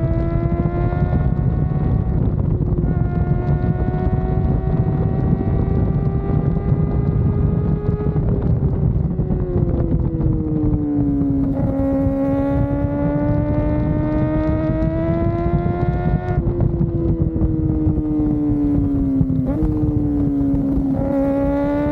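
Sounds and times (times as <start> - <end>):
motorcycle engine running: 0.0 - 21.9
wind rushing on microphone: 0.0 - 21.9.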